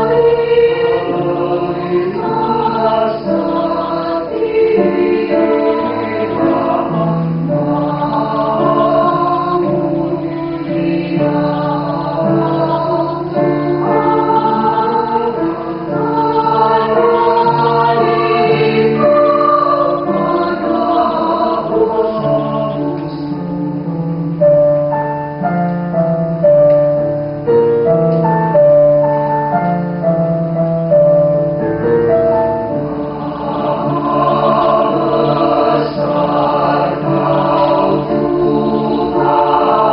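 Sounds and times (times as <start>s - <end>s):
choir singing a hymn: 0.0s - 24.0s, 31.0s - 39.9s.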